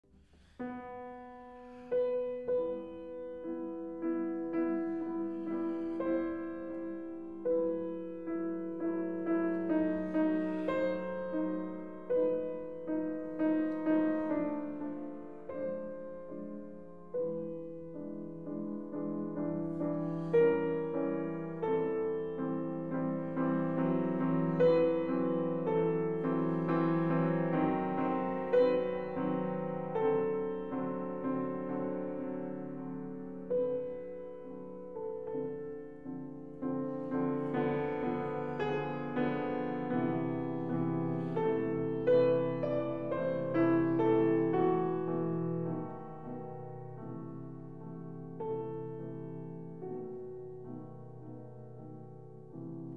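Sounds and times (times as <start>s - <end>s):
gentle piano music: 0.4s - 52.9s.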